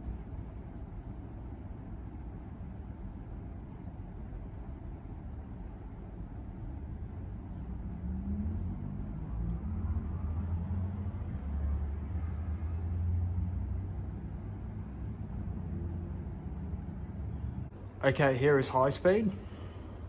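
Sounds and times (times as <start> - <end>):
ceiling fan motor hum: 0.0 - 20.0
fan blades whooshing air: 0.0 - 20.0.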